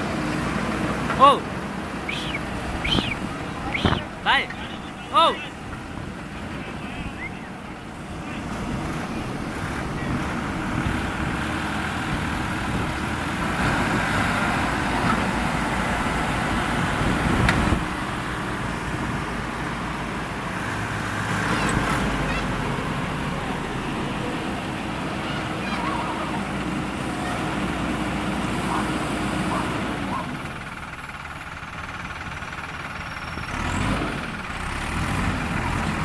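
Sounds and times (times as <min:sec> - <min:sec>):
heavy machinery diesel engines: 0:00.0 - 0:36.0.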